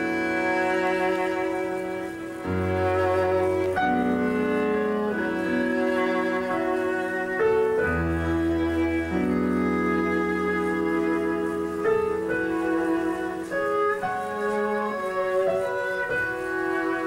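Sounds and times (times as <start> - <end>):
violin: 0.0 - 17.0.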